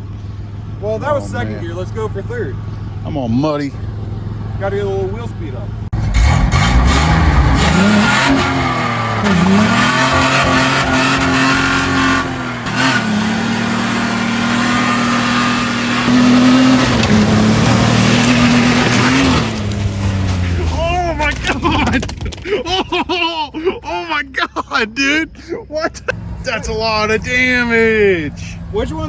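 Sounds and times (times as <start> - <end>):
truck engine revving: 0.0 - 23.7, 26.0 - 29.0.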